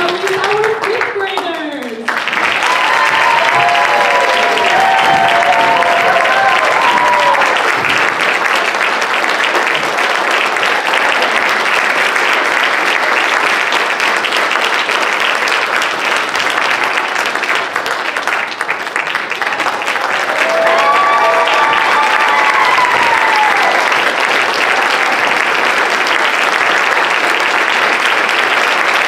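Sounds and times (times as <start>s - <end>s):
large audience applause: 0.0s - 29.0s.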